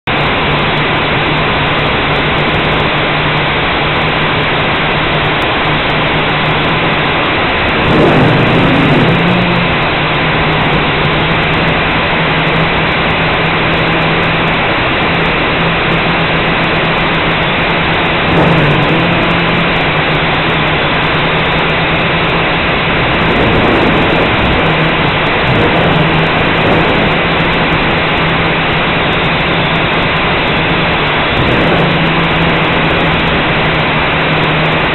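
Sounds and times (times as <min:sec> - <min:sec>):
quadcopter motors humming: 0:00.1 - 0:34.9
propeller wash on microphone: 0:00.2 - 0:34.9.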